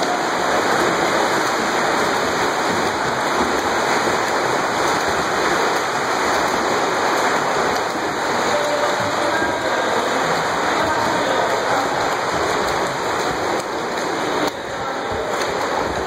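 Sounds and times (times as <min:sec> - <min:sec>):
swimmers splashing water: 0:00.0 - 0:16.0.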